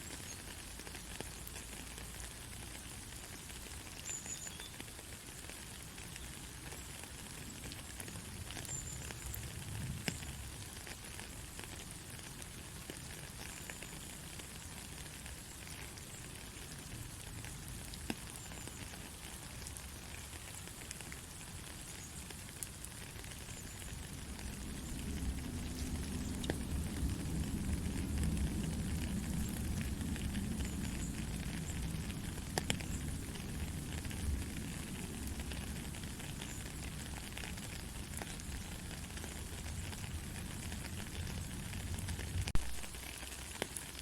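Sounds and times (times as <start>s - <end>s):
gentle rain falling: 0.0s - 44.0s
raindrops ticking: 0.0s - 44.0s.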